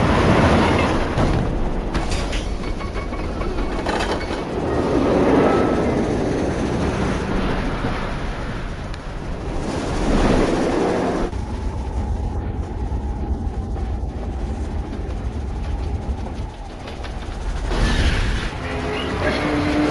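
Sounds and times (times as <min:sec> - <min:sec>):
steam train rolling on rails: 0:00.0 - 0:19.9.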